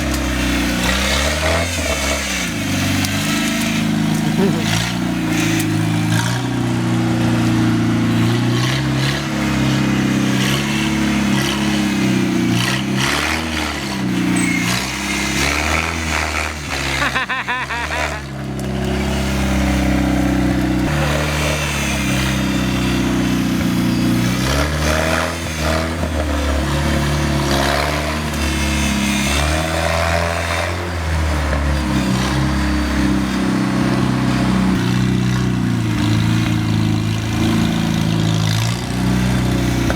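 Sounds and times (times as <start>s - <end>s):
vehicle engine running under load: 0.0s - 39.9s.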